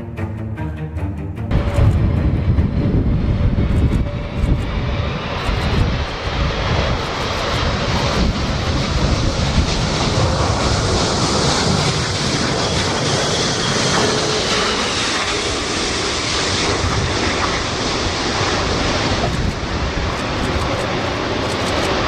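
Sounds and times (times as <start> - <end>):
high engine whine: 1.5 - 22.0
jet engines rumbling: 1.5 - 22.0.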